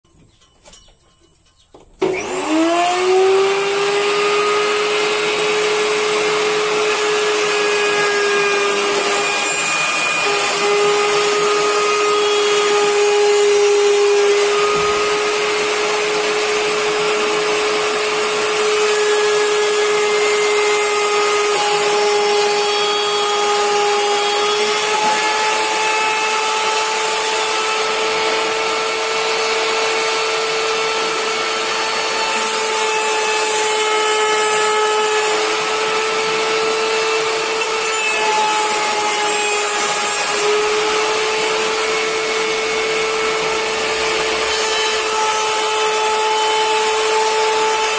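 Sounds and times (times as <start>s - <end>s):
woodworking machine whining: 1.7s - 47.9s.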